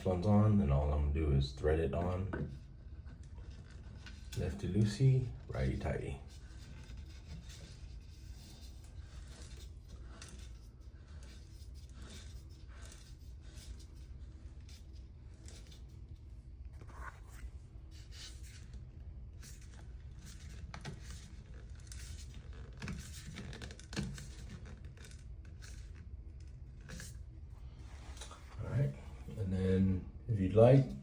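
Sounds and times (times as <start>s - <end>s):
steady low hum: 0.0s - 31.0s
threads scraping and clicking: 2.0s - 29.4s.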